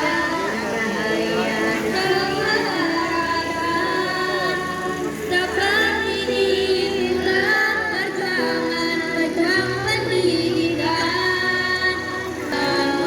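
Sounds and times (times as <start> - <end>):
girls choir singing: 0.0 - 13.0.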